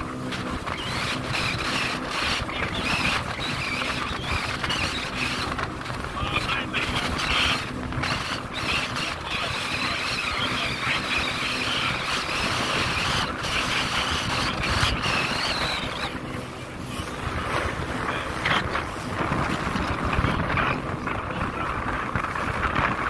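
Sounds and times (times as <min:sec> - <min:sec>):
boat motor running: 0:00.0 - 0:23.0
wind buffeting microphone: 0:00.0 - 0:23.0.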